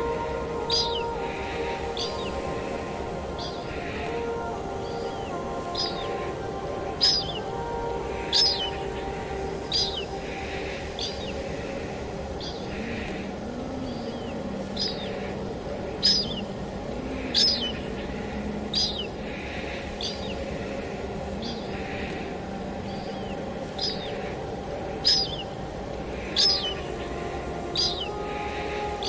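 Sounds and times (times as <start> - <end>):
bird chirping: 0.0 - 16.6, 17.2 - 29.0
steady rainfall: 0.0 - 29.0.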